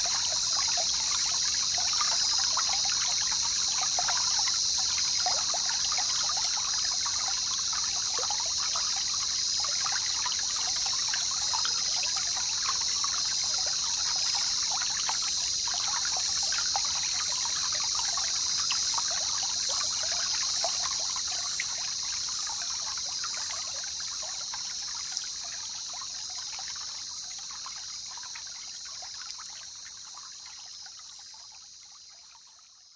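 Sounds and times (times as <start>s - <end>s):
high-pitched hiss: 0.0s - 32.1s
water trickling: 0.0s - 32.8s.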